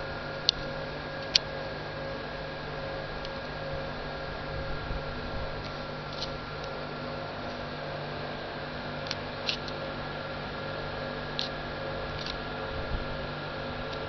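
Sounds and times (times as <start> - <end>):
electrical hum and hiss: 0.0 - 14.0.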